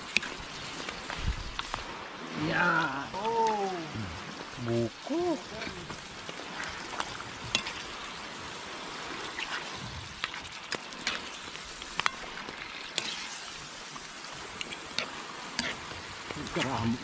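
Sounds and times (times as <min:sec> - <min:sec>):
coconut milk sizzling and bubbling: 0:00.0 - 0:17.0.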